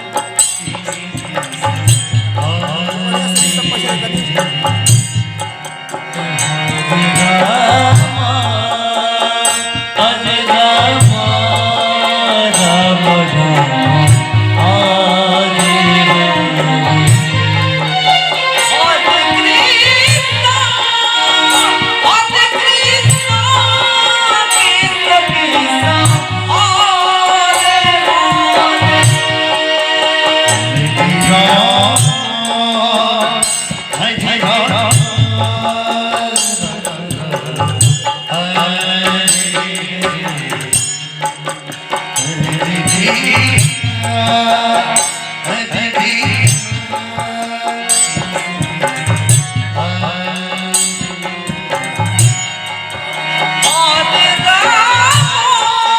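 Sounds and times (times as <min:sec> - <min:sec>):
rattling percussion: 0:00.0 - 0:55.9
person singing: 0:05.6 - 0:52.4.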